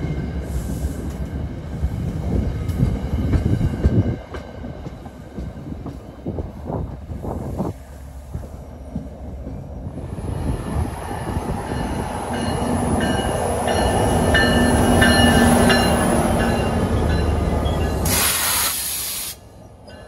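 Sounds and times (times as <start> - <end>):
diesel locomotive engine drone: 0.0 - 20.0
train rumbling past: 0.0 - 20.0.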